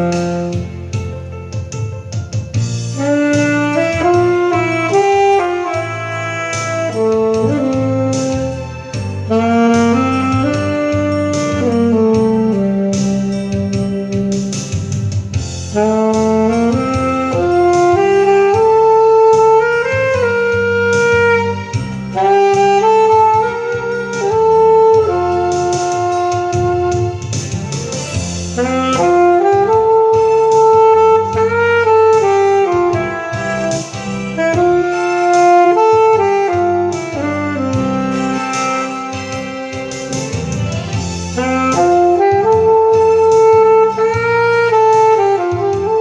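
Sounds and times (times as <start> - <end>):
saxophone playing slow melody: 0.0 - 46.0.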